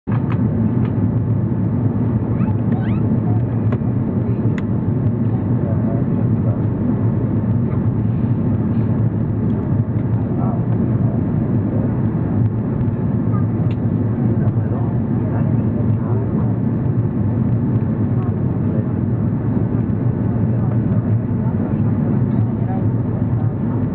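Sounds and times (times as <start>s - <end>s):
aircraft cabin engine rumble: 0.0s - 23.9s.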